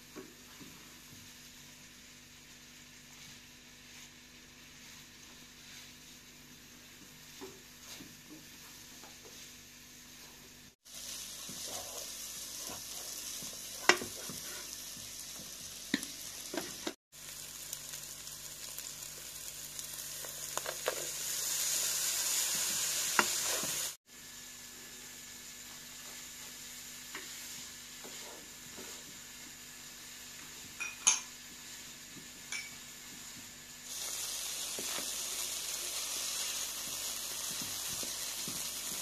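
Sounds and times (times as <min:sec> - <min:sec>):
meat and rice sizzling in oil: 0:00.0 - 0:39.0.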